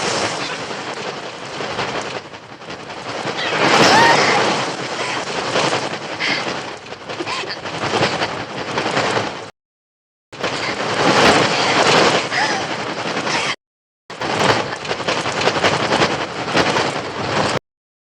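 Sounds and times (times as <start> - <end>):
wings flapping: 0.0 - 9.5, 10.4 - 17.6.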